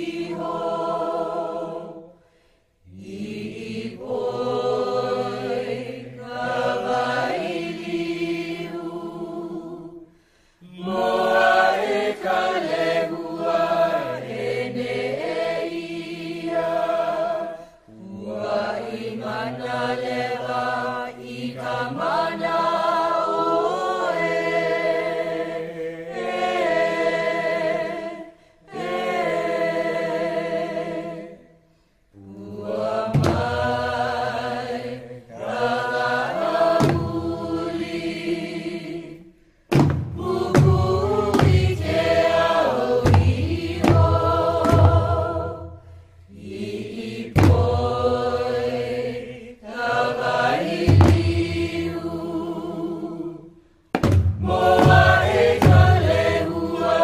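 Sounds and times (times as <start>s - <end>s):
group chanting in unison: 0.0s - 57.0s.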